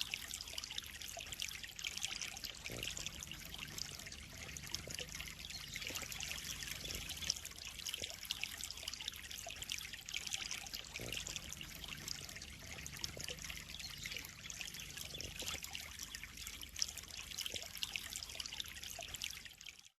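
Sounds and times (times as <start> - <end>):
faint low hum: 0.0 - 19.1
water trickling and splashing: 0.0 - 20.0.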